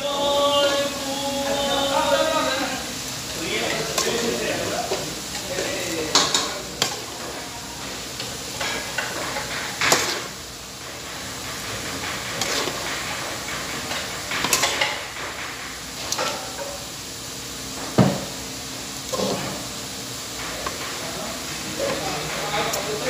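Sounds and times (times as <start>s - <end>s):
noodles sizzling in a wok: 0.0s - 23.0s
spatula scraping and clanking wok: 0.7s - 17.0s, 19.0s - 23.0s.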